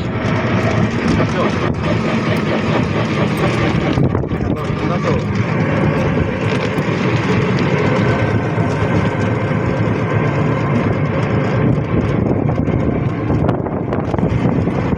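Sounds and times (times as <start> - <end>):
auto-rickshaw engine running: 0.0 - 14.9
road noise: 0.0 - 14.9.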